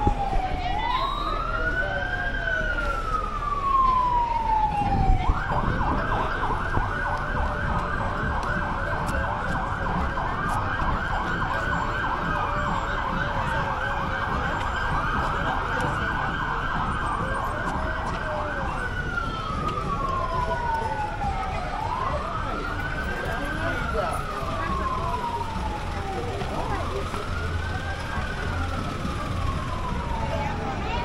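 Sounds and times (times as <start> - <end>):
emergency vehicle siren: 0.0 - 31.0.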